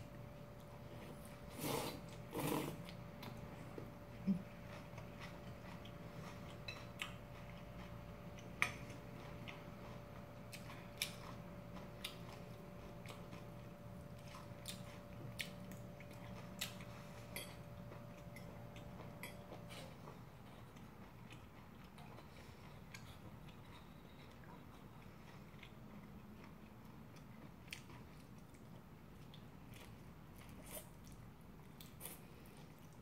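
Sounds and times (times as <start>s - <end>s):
faint steady hum: 0.0s - 33.0s
chewing spaghetti: 0.6s - 33.0s.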